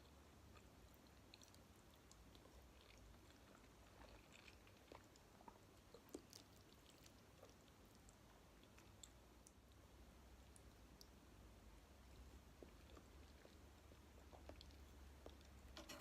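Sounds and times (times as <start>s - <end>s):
mouth chewing soft candy: 0.0s - 15.8s.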